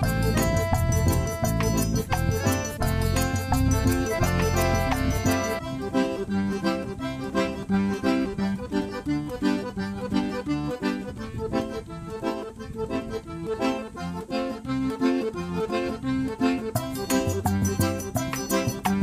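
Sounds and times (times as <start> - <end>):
accordion music: 0.0 - 19.0.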